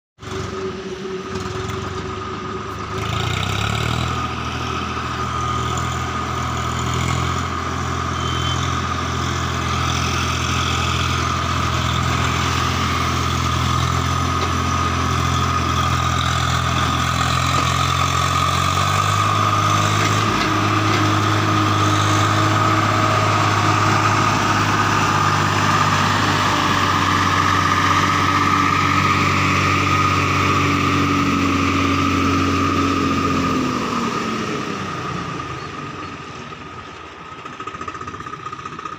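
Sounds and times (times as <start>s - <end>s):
tractor diesel engine labouring: 0.2s - 38.9s.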